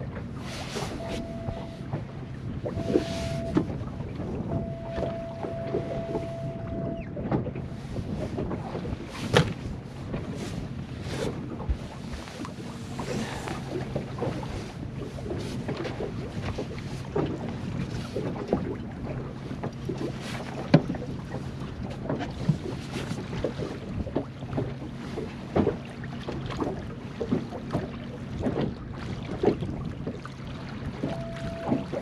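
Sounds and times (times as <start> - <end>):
wind buffeting microphone: 0.0 - 25.8
boat motor running: 0.0 - 32.0
water slapping against hull: 0.0 - 32.0.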